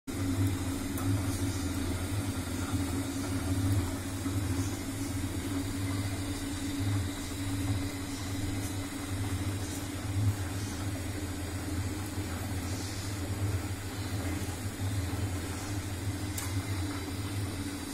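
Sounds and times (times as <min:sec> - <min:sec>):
machine motor humming: 0:00.1 - 0:17.9.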